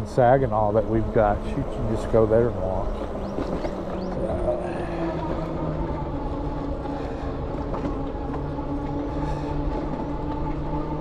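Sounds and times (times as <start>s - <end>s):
electric bike motor whine: 0.0s - 11.0s
tire rumble: 0.0s - 11.0s.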